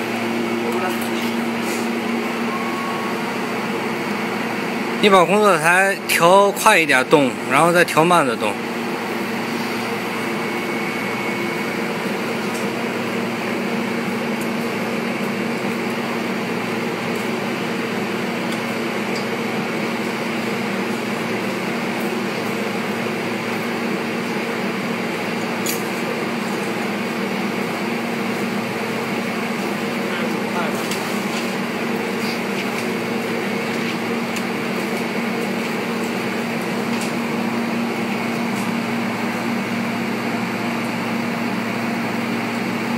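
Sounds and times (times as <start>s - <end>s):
welding machine humming: 0.0s - 42.9s.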